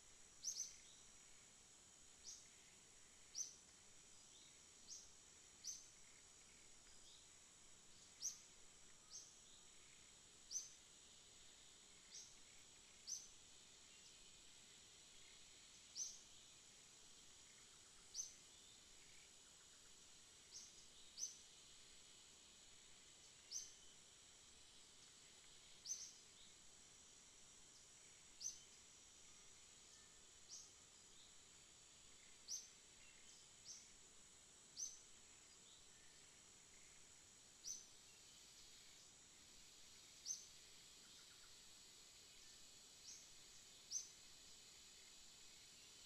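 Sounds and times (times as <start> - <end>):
high insect drone: 0.0 - 46.0.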